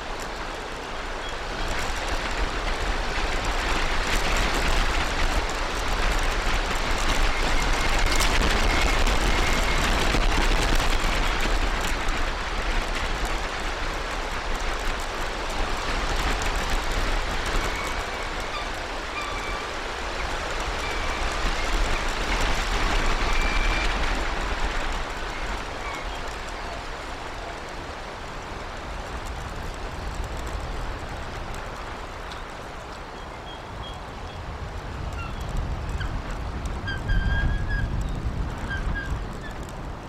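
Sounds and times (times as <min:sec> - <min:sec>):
steady rushing outdoor noise: 0:00.0 - 0:40.0.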